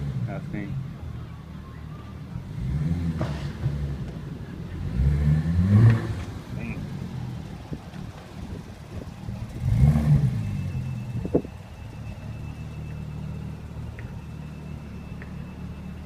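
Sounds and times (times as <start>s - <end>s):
car engine running at low speed: 0.0s - 16.0s.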